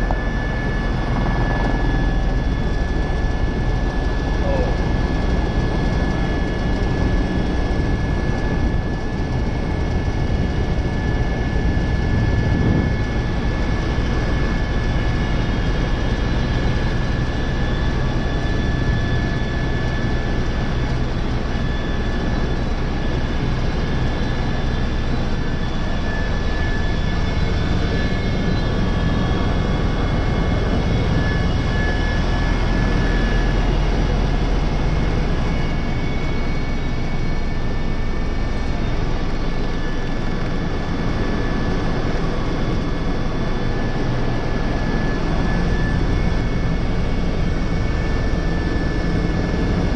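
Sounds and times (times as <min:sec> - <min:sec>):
helicopter engine and rotor drone: 0:00.0 - 0:49.9
high whine: 0:00.0 - 0:49.9.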